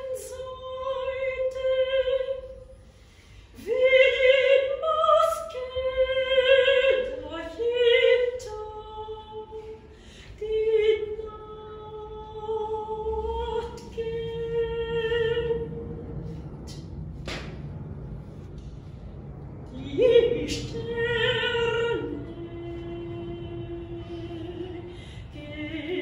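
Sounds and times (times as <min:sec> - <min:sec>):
soprano singing unaccompanied: 0:00.0 - 0:02.6, 0:03.6 - 0:15.8, 0:19.7 - 0:26.0.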